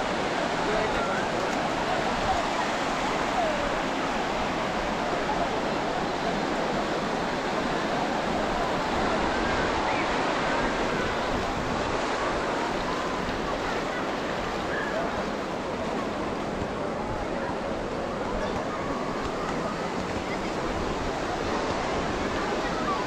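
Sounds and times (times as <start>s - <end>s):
faint voices: 0.0s - 23.0s
ocean surf washing: 0.0s - 23.0s.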